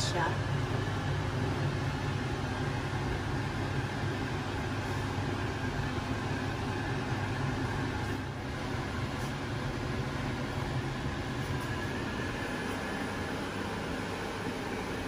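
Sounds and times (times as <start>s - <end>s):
oven fan humming and whooshing: 0.0s - 15.0s.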